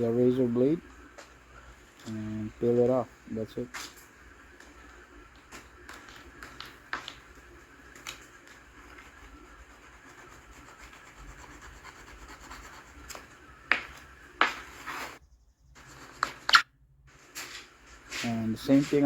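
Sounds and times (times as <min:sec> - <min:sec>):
film rubbing and crinkling: 0:00.0 - 0:19.0.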